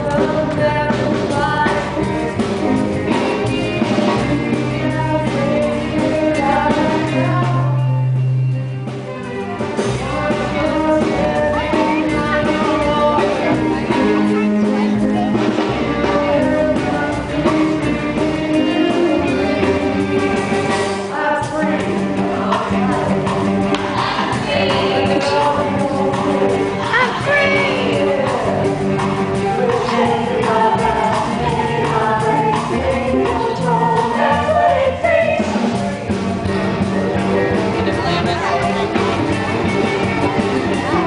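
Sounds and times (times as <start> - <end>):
voices singing together: 0.0 - 8.1, 9.8 - 36.2
band playing: 0.0 - 41.0.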